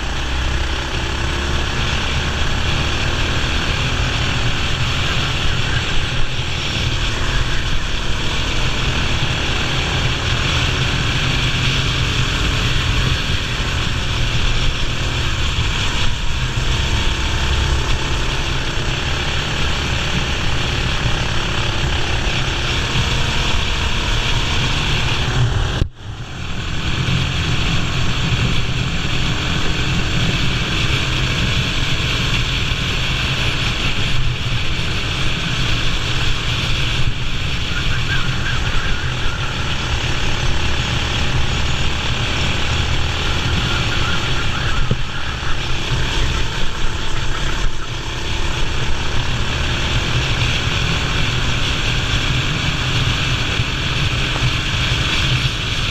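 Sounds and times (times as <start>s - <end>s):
kart engine running hard: 0.0s - 55.9s.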